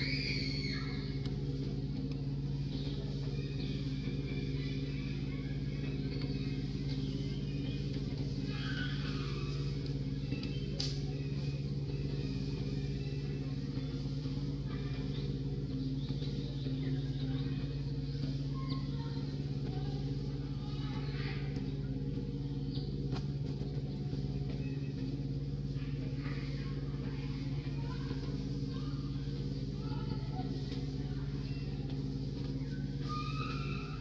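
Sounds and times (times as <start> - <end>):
faint chirps and squeaks: 0.0 - 34.0
low motor hum: 0.0 - 34.0.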